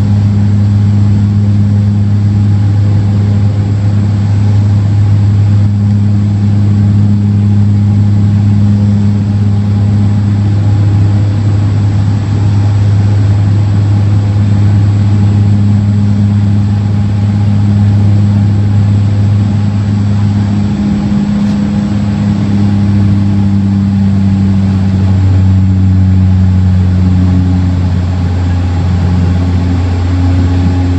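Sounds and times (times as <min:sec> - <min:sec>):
turboprop cabin drone: 0:00.0 - 0:30.9.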